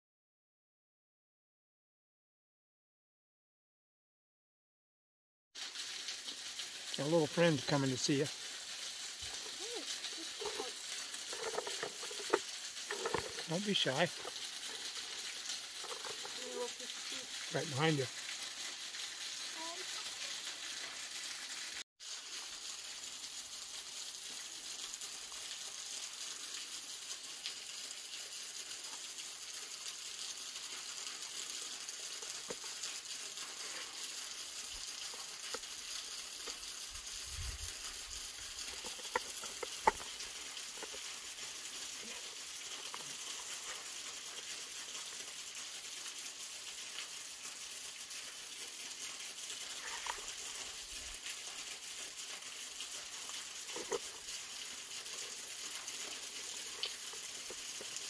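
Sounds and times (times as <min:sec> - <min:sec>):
running water of a stream: 0:05.6 - 0:58.0.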